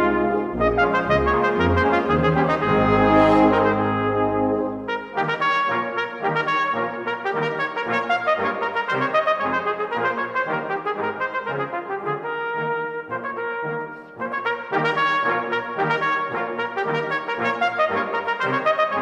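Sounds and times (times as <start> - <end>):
wind orchestra with brass: 0.0 - 19.0.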